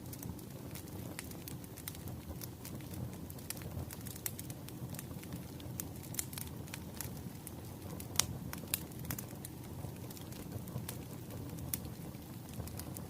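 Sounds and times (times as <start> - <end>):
low rumble of burning logs: 0.0 - 13.0
wood fire crackling and popping: 0.0 - 13.0.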